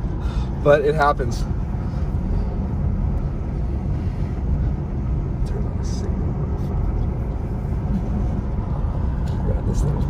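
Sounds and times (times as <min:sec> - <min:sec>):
car tyre and engine rumble: 0:00.0 - 0:10.0.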